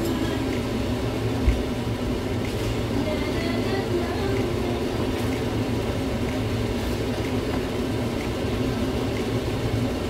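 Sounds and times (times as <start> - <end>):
low mechanical whir: 0.0 - 10.0.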